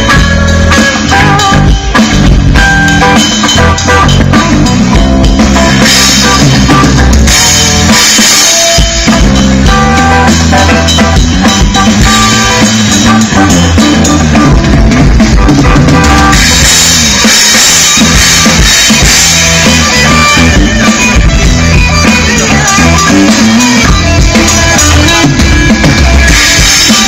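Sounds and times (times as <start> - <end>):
bass drum: 0.0 - 27.0
electric guitars: 0.0 - 27.0.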